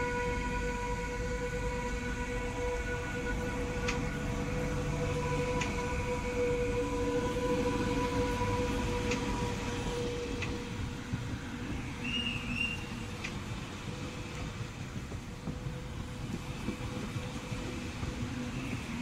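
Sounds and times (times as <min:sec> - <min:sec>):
electric train drive whine: 0:00.0 - 0:19.0
low rumble of moving train: 0:00.0 - 0:19.0.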